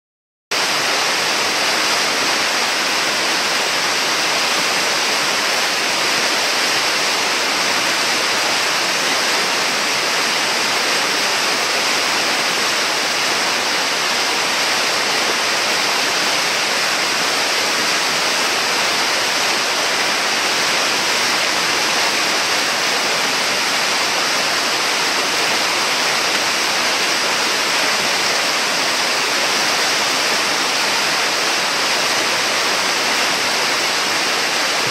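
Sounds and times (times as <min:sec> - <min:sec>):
whitewater rushing: 0:00.5 - 0:34.9.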